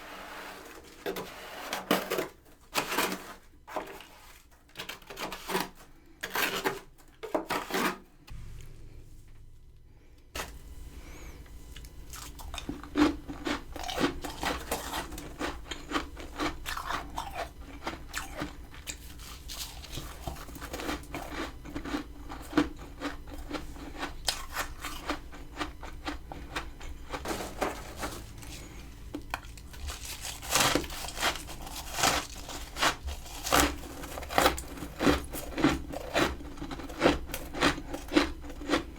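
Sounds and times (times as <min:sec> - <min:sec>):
freezer frost crunching: 0:00.0 - 0:38.9
low steady hum: 0:00.0 - 0:38.9.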